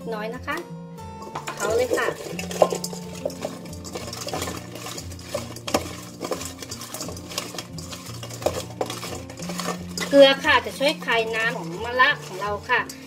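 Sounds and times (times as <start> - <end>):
vegetable pieces clicking in metal bowl: 1.2 - 13.0.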